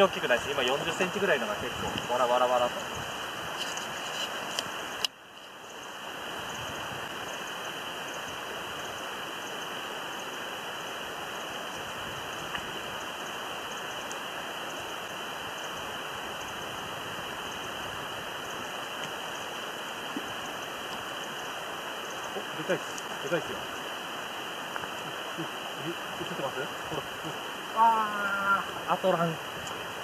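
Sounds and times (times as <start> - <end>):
steady outdoor rushing noise: 0.0 - 30.0.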